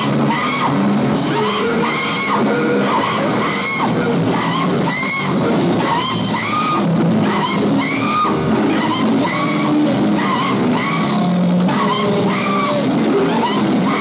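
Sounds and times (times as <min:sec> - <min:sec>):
distorted electric guitar: 0:00.0 - 0:14.0
high squealing figure: 0:00.0 - 0:14.0.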